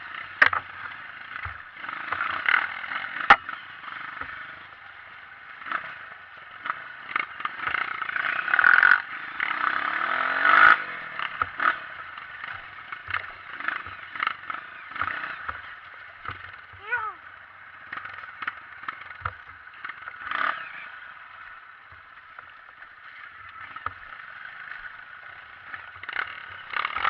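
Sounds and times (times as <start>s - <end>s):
dirt bike engine: 0.0s - 27.0s
knocks and clatter from rough ground: 0.2s - 9.0s, 10.4s - 17.0s, 17.8s - 27.0s.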